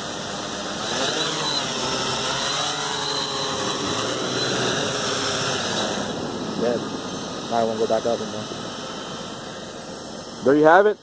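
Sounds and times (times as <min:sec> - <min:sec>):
drone propellers whirring: 0:00.0 - 0:11.0.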